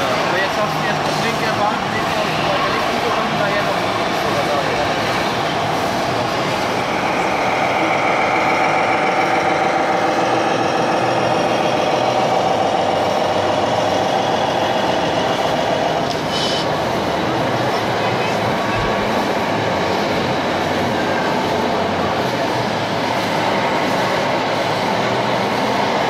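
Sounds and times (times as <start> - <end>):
model truck mechanical hum: 0.0 - 26.0.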